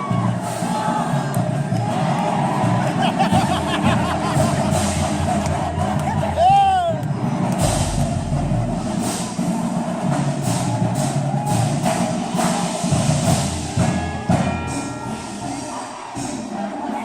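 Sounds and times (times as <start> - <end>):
band playing: 0.0 - 17.0
drum and percussion strikes: 0.0 - 17.0.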